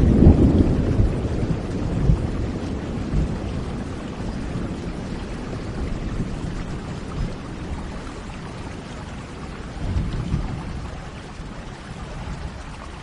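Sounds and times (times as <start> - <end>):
steady rain: 0.0 - 13.0
thunder rumble: 0.0 - 13.0.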